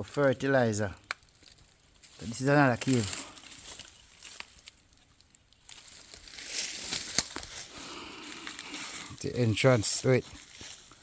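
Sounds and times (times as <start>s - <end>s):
rustling crunching: 0.4s - 11.0s.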